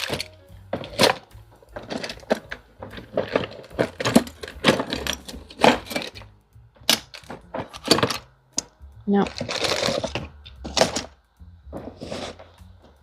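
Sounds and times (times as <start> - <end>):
wooden pieces and cork clattering: 0.0 - 8.7, 9.3 - 13.0.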